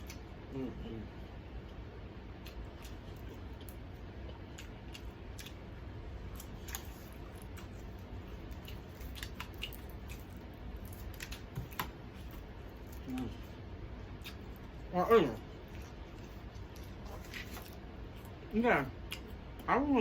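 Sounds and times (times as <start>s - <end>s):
chewing crispy fried chicken: 0.0s - 20.0s.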